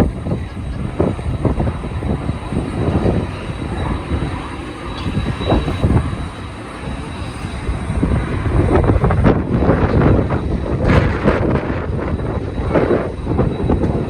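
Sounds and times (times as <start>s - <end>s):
faint high whine: 0.0s - 14.0s
gusty wind buffeting microphone: 0.0s - 14.0s.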